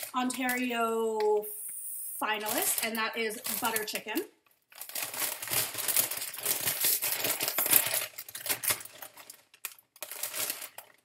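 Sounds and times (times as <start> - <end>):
foil chip bag crinkling: 0.0 - 0.7, 2.3 - 11.0.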